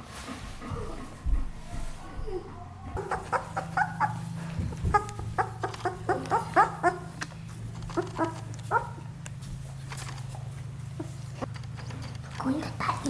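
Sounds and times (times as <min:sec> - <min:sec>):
puppies squeaking and whining: 0:00.0 - 0:13.0
steady low hum: 0:00.0 - 0:13.0.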